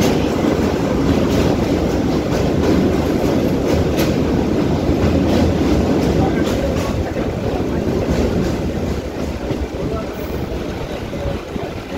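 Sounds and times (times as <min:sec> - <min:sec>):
train wheels rumbling on bridge: 0:00.0 - 0:11.9
wheels clicking over rail joints: 0:00.0 - 0:11.9.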